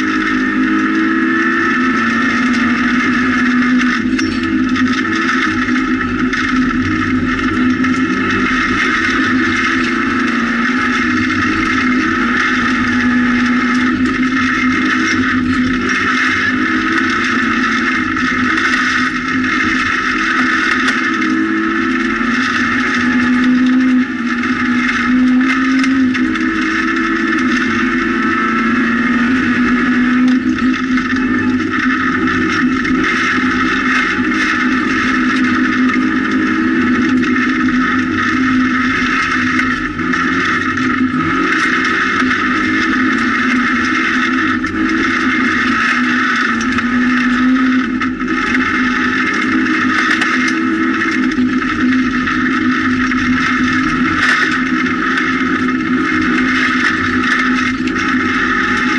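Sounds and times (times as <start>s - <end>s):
rally car engine at high revs: 0.0s - 58.9s.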